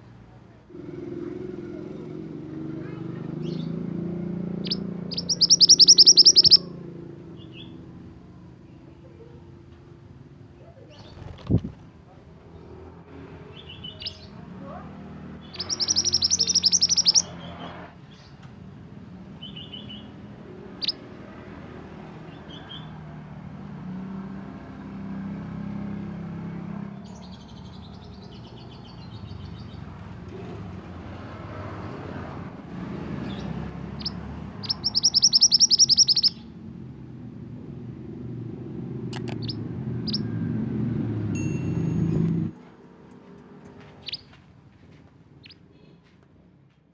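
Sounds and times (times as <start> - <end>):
songbird singing: 1.7 - 9.9, 10.5 - 30.5, 32.9 - 44.4, 45.3 - 46.1.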